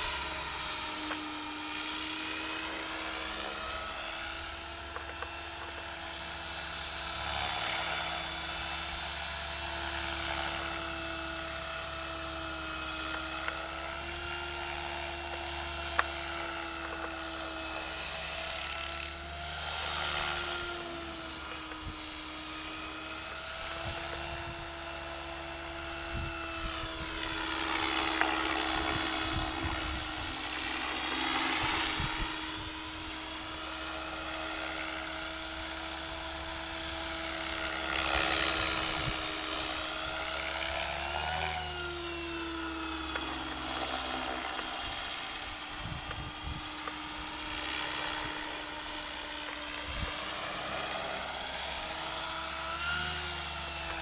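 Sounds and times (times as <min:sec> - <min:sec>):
rc helicopter motor whine: 0:00.0 - 0:54.0.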